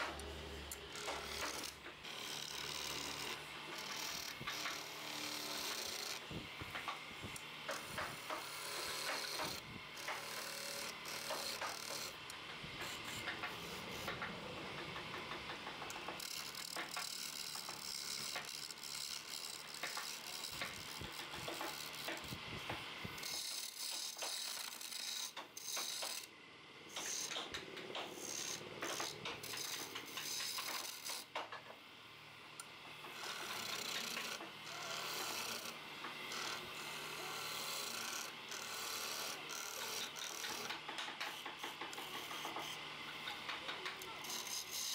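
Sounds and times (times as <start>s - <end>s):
chisel scraping spinning wood: 0.0s - 26.3s, 26.9s - 31.6s, 33.0s - 44.9s
wood lathe turning: 0.0s - 26.3s, 26.9s - 31.7s, 32.6s - 44.9s.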